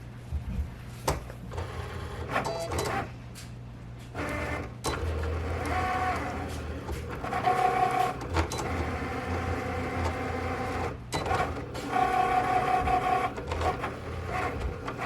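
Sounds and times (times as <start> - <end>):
vinyl cutter motors whining: 1.5 - 3.1, 4.2 - 15.0.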